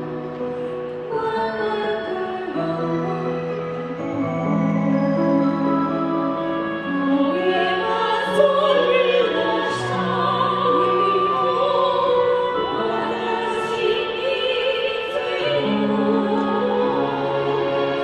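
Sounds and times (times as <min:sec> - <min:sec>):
women singing with vibrato: 0:01.1 - 0:18.0.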